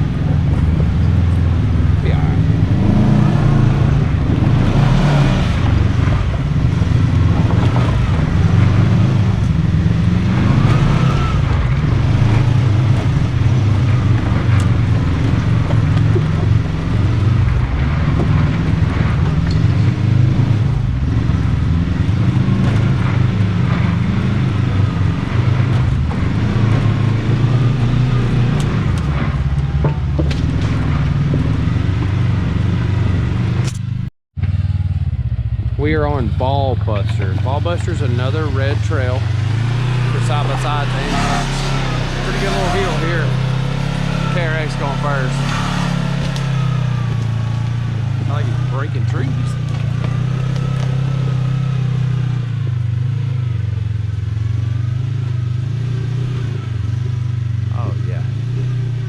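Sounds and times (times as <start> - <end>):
utility vehicle engine droning: 0.0 - 59.0.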